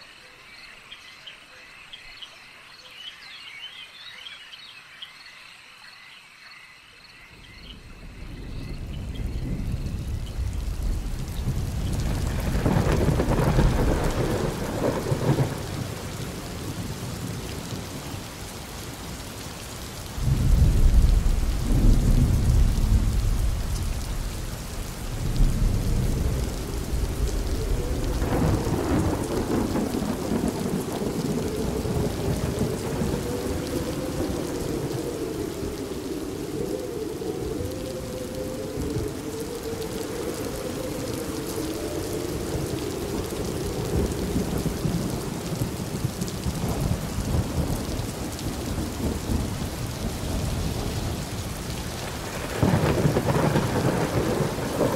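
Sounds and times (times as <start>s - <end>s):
steady rain: 0.0s - 54.9s
thunder rumbling: 7.7s - 19.2s, 20.1s - 54.9s.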